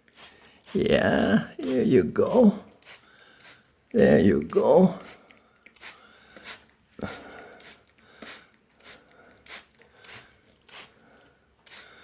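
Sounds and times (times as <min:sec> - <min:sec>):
spray bottle spritzing: 0:00.0 - 0:00.9, 0:01.6 - 0:03.8, 0:04.4 - 0:11.0, 0:11.6 - 0:12.0.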